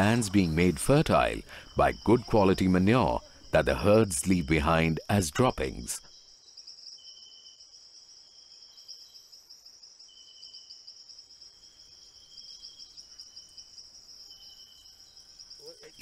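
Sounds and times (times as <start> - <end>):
insect trills: 0.0 - 16.0.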